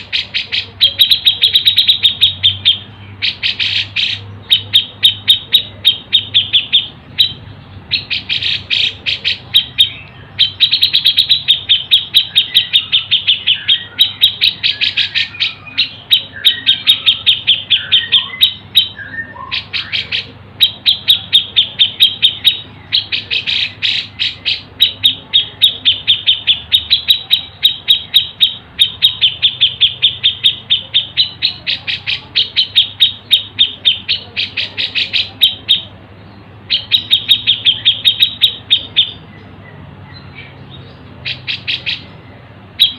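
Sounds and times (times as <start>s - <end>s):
songbird rapid high chirps: 0.0s - 42.9s.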